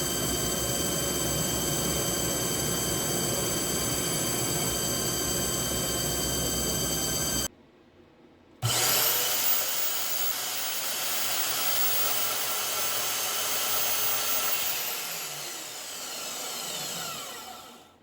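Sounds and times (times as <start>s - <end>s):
spindle motor whining: 0.0s - 7.5s, 8.6s - 18.0s.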